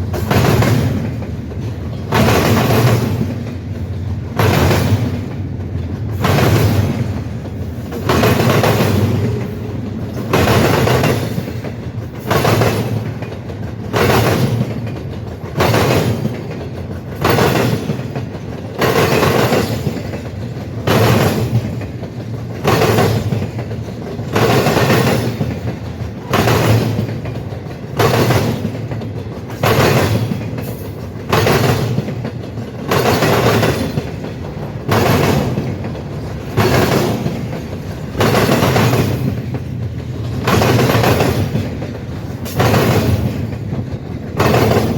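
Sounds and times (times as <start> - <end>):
train rolling rumble: 0.0 - 44.9
train wheels clattering over crossing: 0.0 - 44.9.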